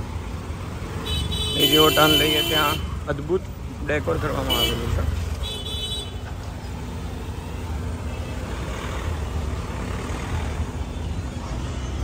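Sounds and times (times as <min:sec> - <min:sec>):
traffic jam rumble: 0:00.0 - 0:12.0.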